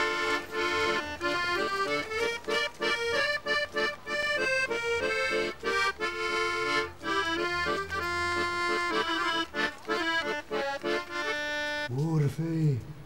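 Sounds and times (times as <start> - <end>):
reedy instrument melody: 0.0 - 11.9.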